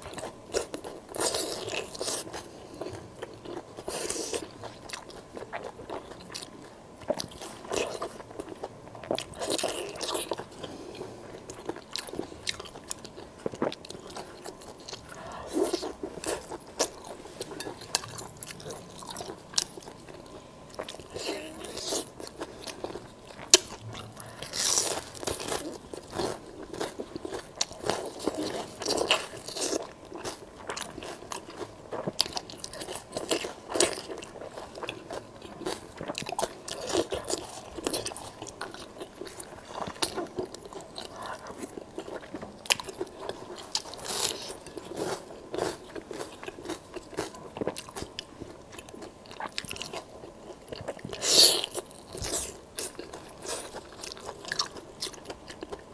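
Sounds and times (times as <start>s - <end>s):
crunching and wet chewing: 0.0s - 55.9s.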